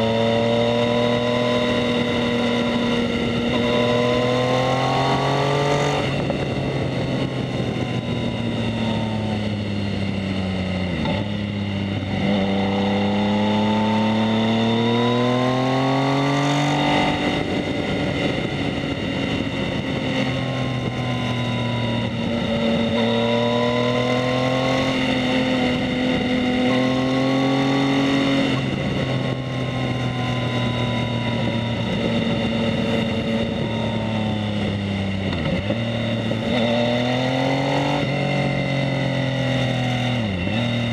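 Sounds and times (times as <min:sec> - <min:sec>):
motorcycle engine revving while riding: 0:00.0 - 0:40.9.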